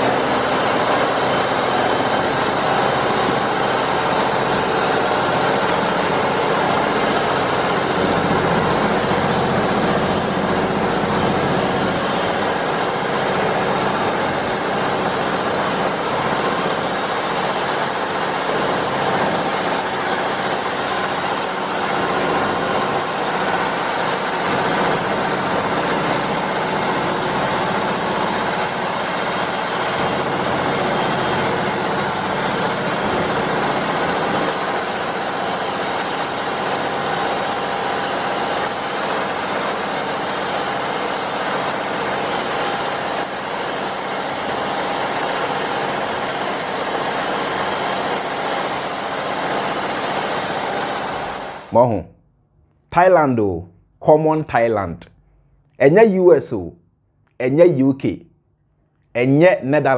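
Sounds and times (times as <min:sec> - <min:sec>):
boat engine running: 0:00.0 - 0:51.7.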